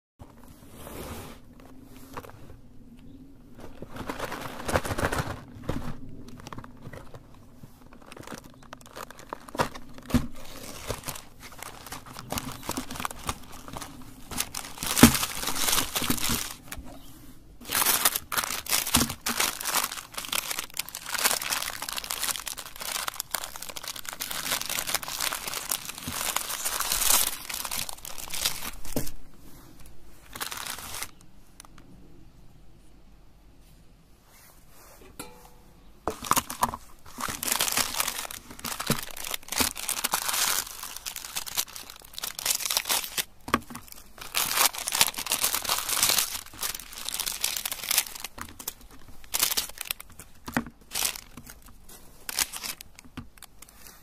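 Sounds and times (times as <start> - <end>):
wrappers crinkling and rustling: 3.5 - 31.8, 36.1 - 54.0
wrapper tearing open: 3.9 - 16.8, 17.6 - 29.0, 30.2 - 31.8, 36.3 - 53.8.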